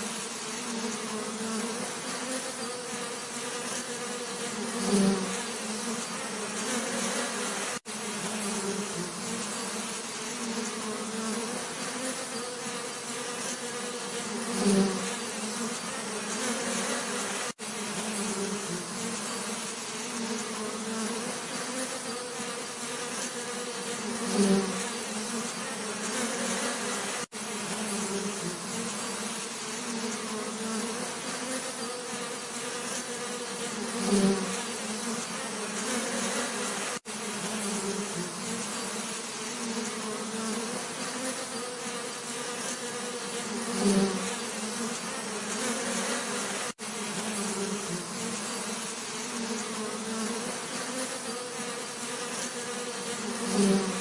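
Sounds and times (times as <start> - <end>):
bees buzzing: 0.0 - 54.0
single bee buzzing close by: 0.0 - 54.0.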